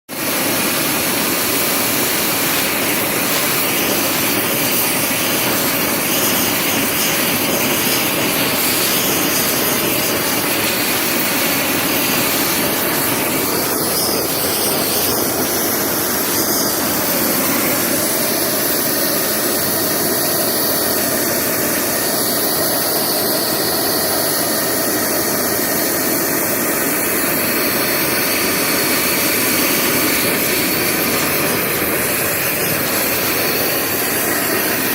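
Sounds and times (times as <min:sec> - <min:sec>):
propane torch hissing: 0:00.1 - 0:34.9.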